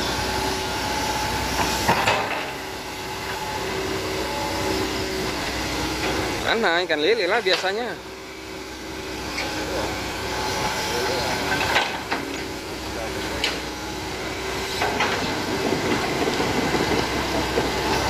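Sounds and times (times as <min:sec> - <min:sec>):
excavator diesel engine running: 0:00.0 - 0:18.0
hydraulic whine: 0:00.0 - 0:18.0.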